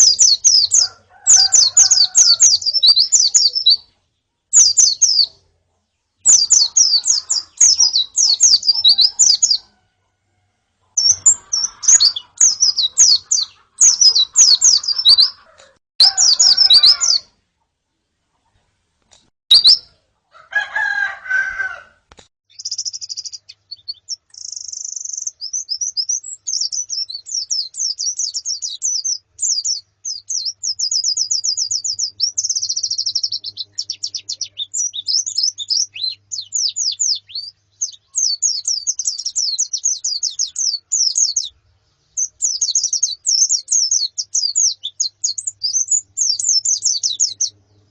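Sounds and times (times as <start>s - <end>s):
birds chirping and twittering: 0.0s - 10.1s, 10.8s - 17.4s, 18.0s - 20.1s, 22.5s - 47.9s.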